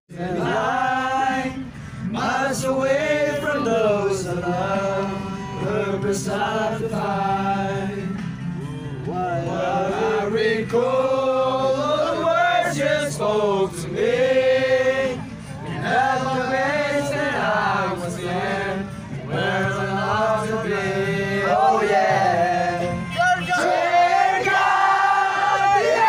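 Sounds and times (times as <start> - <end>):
young men singing together: 0.1 - 8.2, 9.0 - 26.0.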